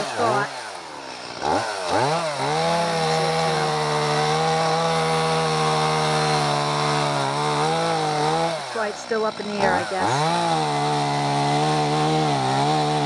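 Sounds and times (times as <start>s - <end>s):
chainsaw cutting into tree: 0.0s - 13.0s.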